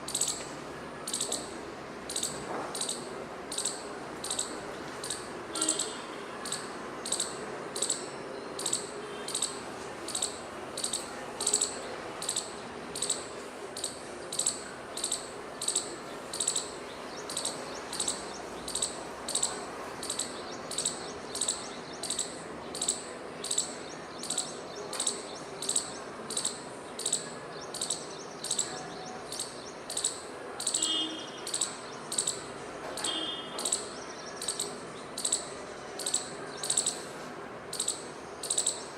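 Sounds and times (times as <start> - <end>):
squirrel alarm chirps: 0.1 - 16.7, 17.3 - 32.4, 33.0 - 37.0, 37.7 - 38.9.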